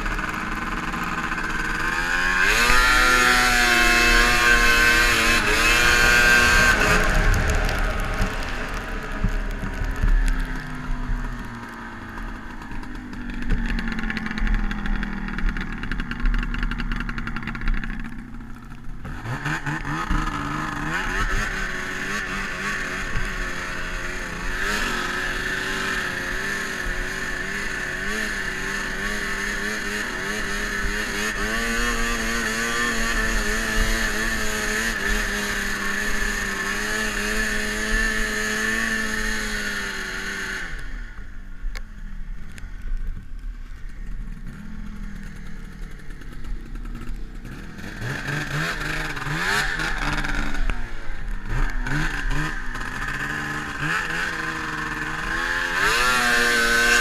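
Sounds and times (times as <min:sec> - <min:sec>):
snowmobile engine revving: 0:00.0 - 0:41.3, 0:43.9 - 0:57.0.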